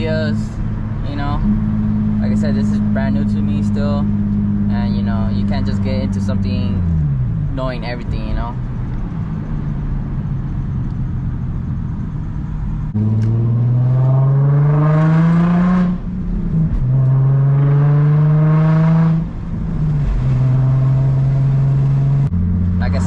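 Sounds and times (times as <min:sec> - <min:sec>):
car engine through straight exhaust: 0:00.0 - 0:23.0.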